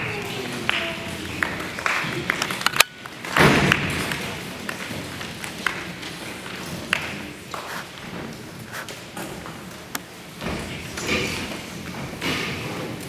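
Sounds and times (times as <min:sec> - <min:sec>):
murmur of voices: 0:00.0 - 0:11.9.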